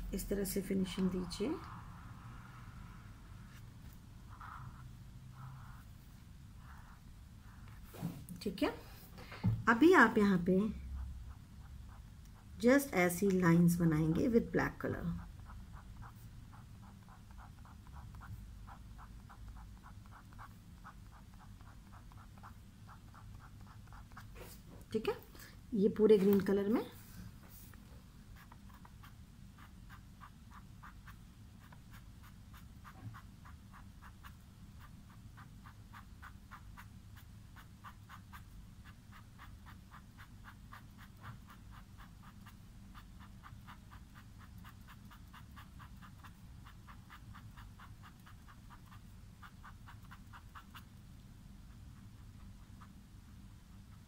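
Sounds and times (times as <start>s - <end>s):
marker pen scratching on paper: 3.4s - 8.3s, 9.7s - 25.2s, 26.0s - 51.0s.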